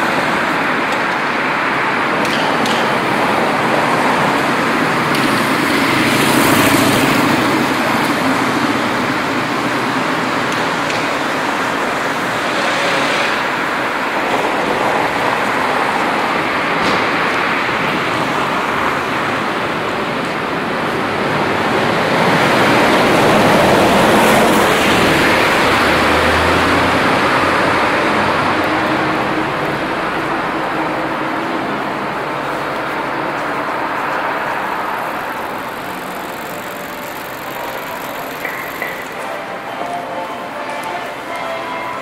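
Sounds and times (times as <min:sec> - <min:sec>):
traffic-like street noise: 0:00.0 - 0:42.0.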